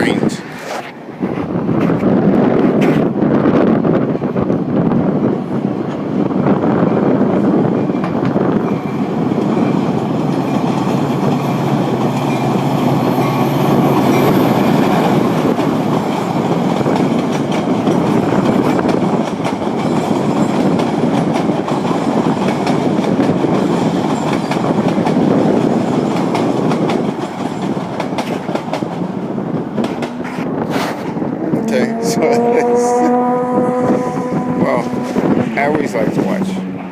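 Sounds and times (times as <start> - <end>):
train wheels on rails: 0.0 - 36.9.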